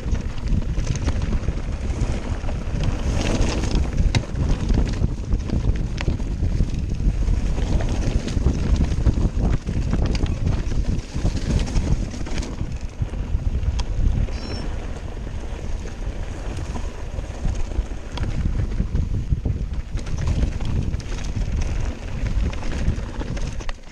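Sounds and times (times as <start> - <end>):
mountain bike rumbling and rattling: 0.0 - 23.9
wind buffeting microphone: 0.0 - 23.9.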